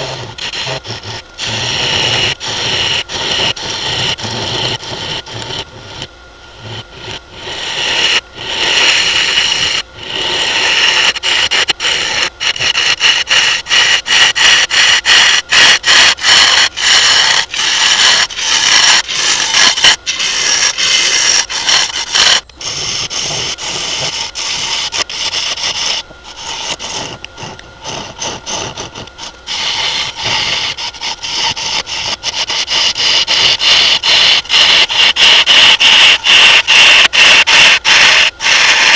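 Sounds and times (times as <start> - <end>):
lathe tool scraping wood: 0.0 - 38.9.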